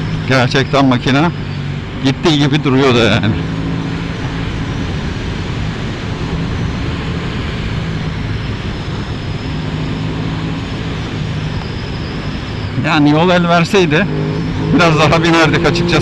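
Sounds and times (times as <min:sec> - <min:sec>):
motorcycle engine running steadily: 0:00.0 - 0:16.0
wind noise: 0:00.0 - 0:16.0.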